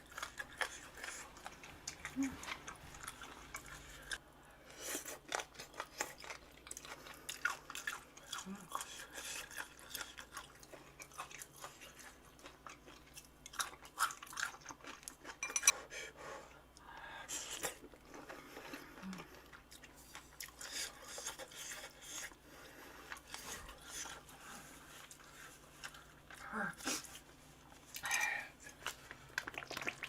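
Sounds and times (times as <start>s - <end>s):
chewing crunchy food: 0.0s - 4.2s, 4.9s - 15.8s, 17.4s - 30.0s.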